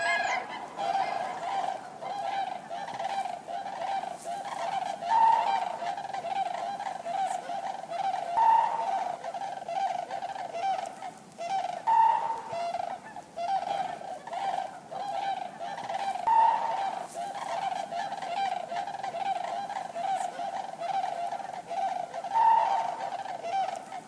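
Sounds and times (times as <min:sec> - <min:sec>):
cranes trumpeting calls: 0:00.0 - 0:24.0.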